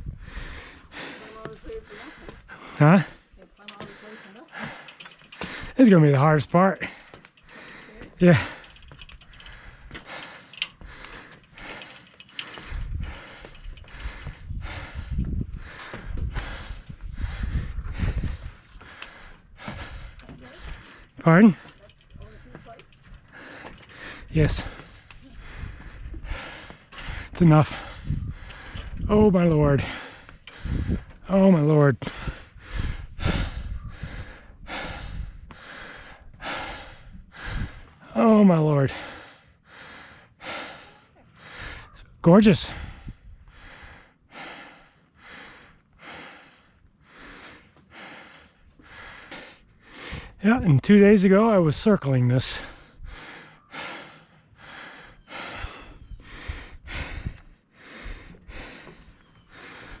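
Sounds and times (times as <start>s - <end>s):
person breathing hard: 0.0s - 5.8s, 6.8s - 31.3s, 32.0s - 38.2s, 38.8s - 51.2s, 52.2s - 60.0s.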